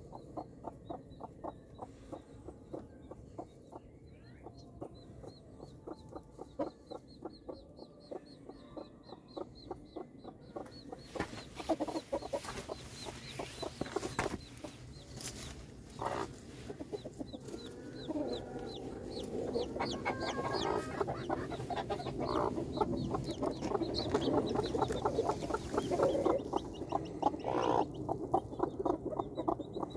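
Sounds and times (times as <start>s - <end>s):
chicks peeping: 0.0s - 29.9s
hen clucking: 0.0s - 29.9s.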